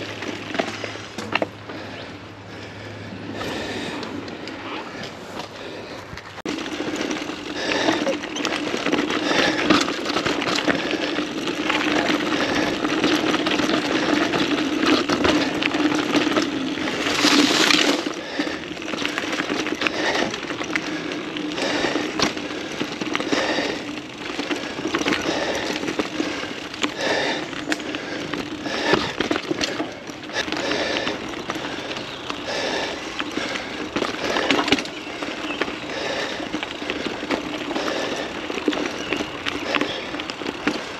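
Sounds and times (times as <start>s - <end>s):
bike rattling and knocking: 0.0s - 40.9s
bike tyres rolling on dirt: 0.0s - 40.9s.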